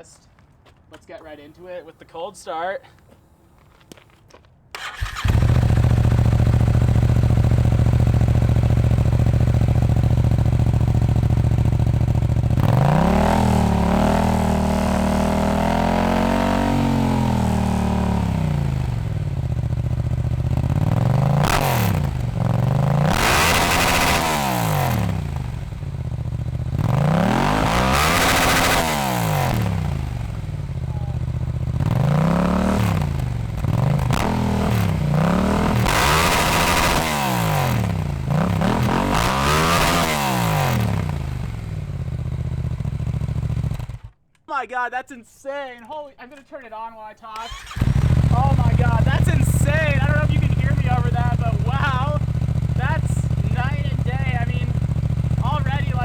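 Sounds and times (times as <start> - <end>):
motorcycle engine starting: 4.7 - 44.3, 47.3 - 56.0
motorcycle engine idling: 4.8 - 44.2, 47.4 - 56.0
motorcycle engine revving: 4.8 - 44.2, 47.4 - 56.0.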